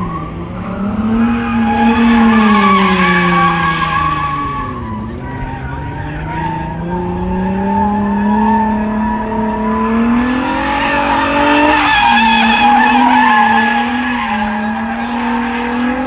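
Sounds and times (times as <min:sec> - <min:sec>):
car engine revving: 0:00.0 - 0:16.0
tires squealing: 0:00.0 - 0:16.0.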